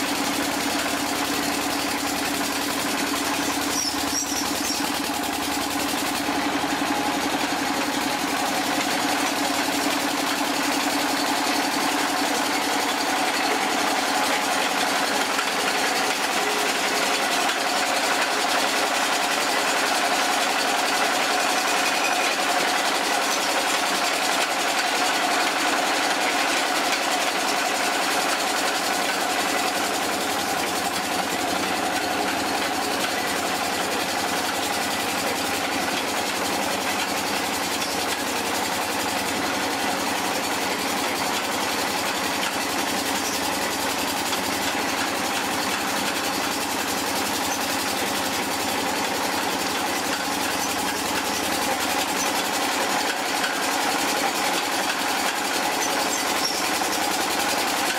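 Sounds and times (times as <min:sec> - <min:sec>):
drilling rig engine running: 0:00.0 - 0:57.9.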